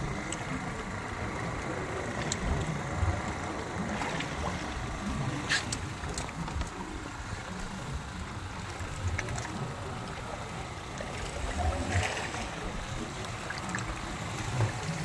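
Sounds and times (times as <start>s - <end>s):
sea water around boat: 0.0s - 15.0s.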